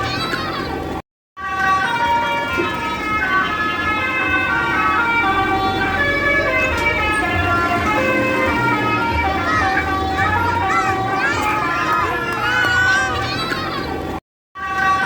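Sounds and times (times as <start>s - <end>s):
bus horn playing a tune: 1.4s - 15.0s.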